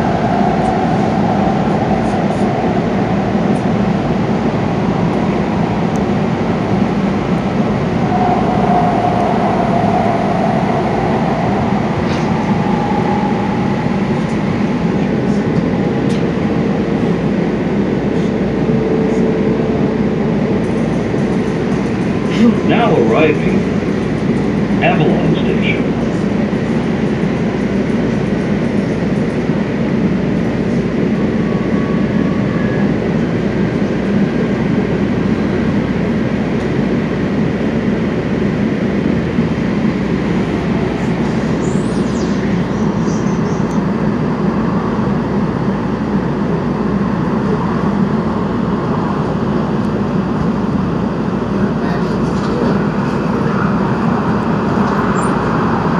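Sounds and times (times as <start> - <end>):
light-rail train rumble: 0.0 - 55.9.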